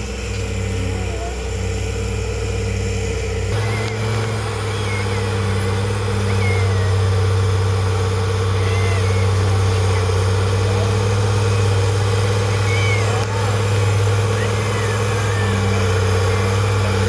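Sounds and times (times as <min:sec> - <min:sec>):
heavy diesel engine humming: 0:00.0 - 0:17.0.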